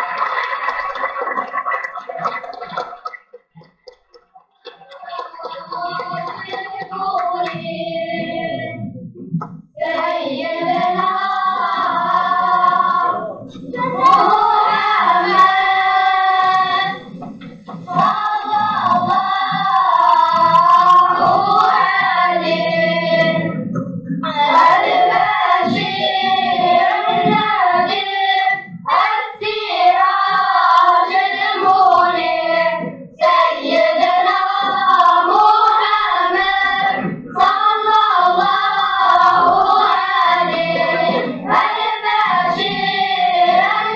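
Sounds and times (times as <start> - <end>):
children singing together: 0.0 - 9.0, 9.8 - 43.9.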